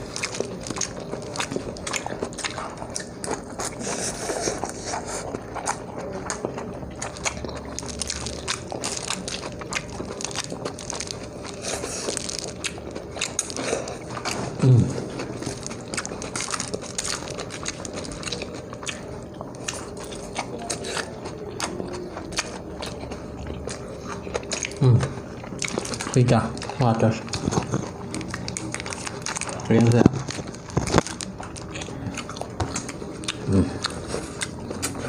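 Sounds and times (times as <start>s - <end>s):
biting and chewing: 0.0s - 35.0s.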